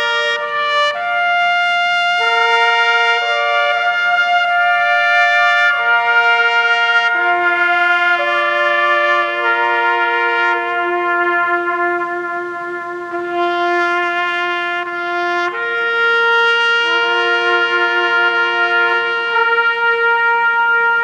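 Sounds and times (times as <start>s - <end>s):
trumpet duet: 0.0s - 21.0s.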